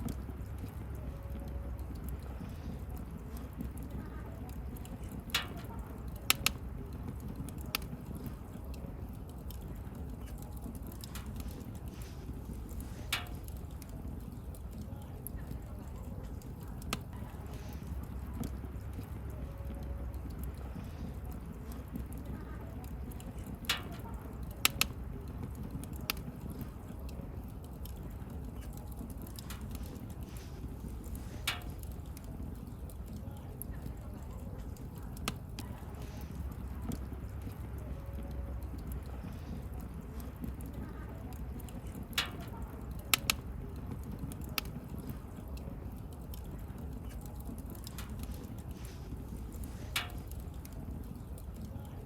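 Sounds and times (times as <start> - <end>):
campfire rumbling: 0.0 - 52.0
fire crackles and pops: 0.0 - 52.0.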